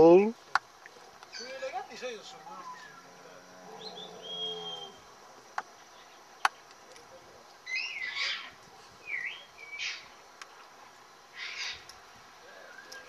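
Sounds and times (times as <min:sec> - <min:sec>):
small birds chirping: 0:00.5 - 0:13.0.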